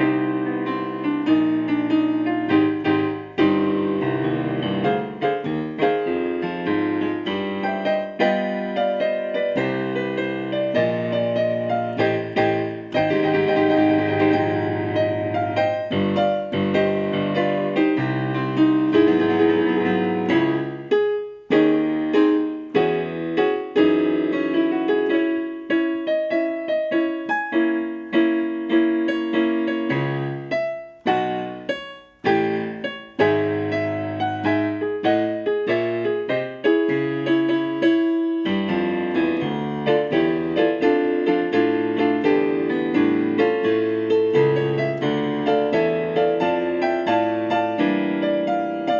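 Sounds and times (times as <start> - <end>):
solo piano playing: 0.0 - 48.9.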